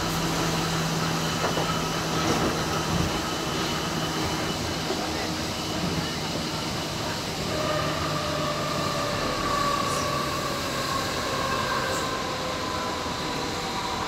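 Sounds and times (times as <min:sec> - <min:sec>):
train electric whine: 0:00.0 - 0:14.0.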